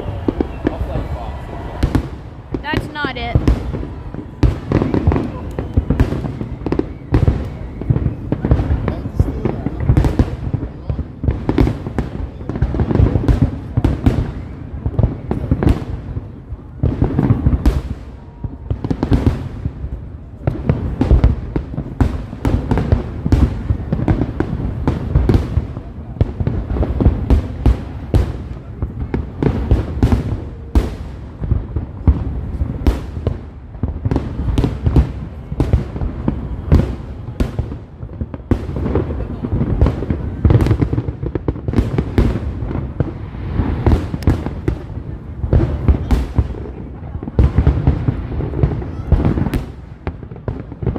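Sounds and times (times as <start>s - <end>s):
fireworks bangs and cracks: 0.0s - 50.9s.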